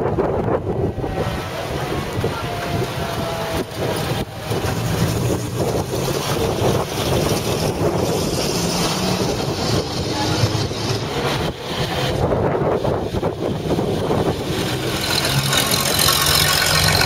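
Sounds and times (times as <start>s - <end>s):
truck engines driving past: 0.0s - 17.0s
wind rumbling on microphone: 0.0s - 17.0s.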